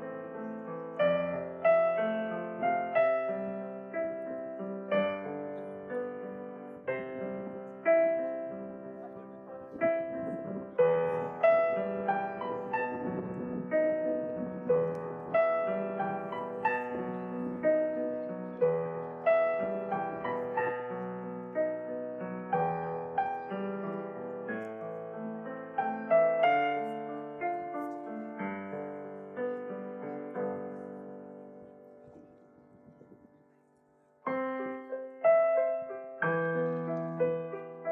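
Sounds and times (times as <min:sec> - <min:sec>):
slow gentle piano piece: 0:00.0 - 0:37.9.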